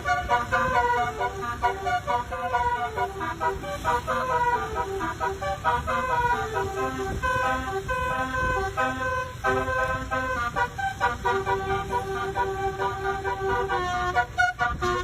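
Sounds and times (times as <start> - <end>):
multi-tone horn melody: 0.0 - 15.0.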